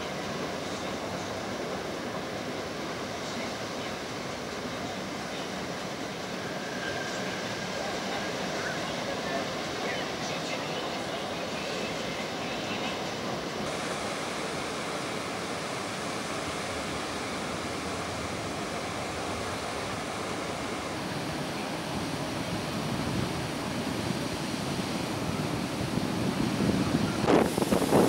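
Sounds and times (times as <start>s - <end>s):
heavy rain downpour hiss: 0.0s - 28.0s.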